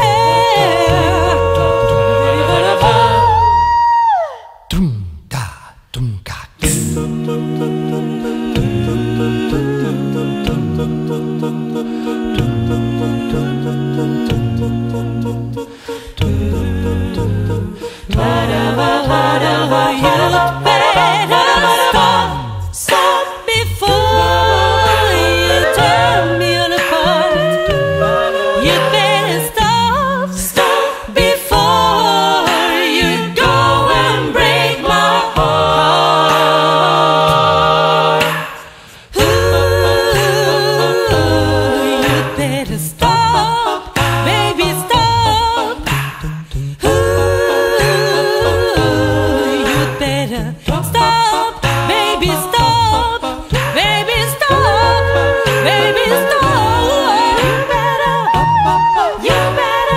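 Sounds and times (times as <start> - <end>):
sung bass line: 0.0 - 3.9, 6.6 - 23.0, 23.6 - 30.6, 31.2 - 38.3, 39.2 - 59.9
voices singing in close harmony: 0.0 - 4.7, 6.6 - 59.9.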